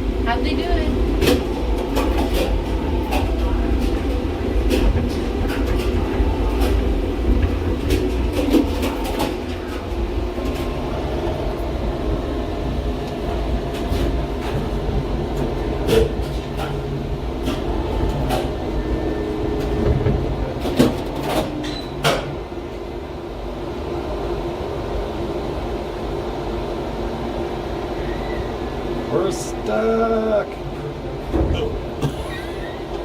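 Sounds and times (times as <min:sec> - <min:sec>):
tram car rumbling on track: 0:00.0 - 0:33.0.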